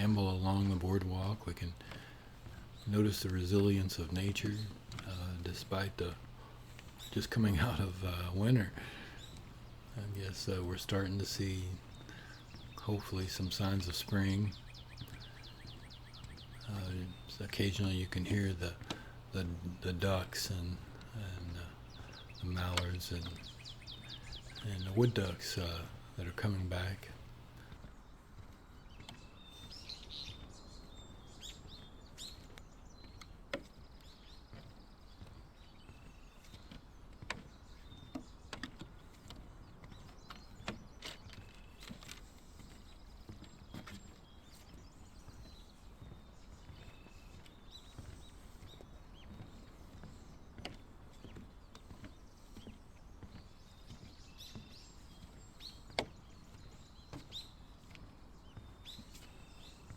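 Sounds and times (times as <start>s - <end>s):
low steady background noise: 0.0s - 59.9s
small birds chirping: 0.0s - 59.9s.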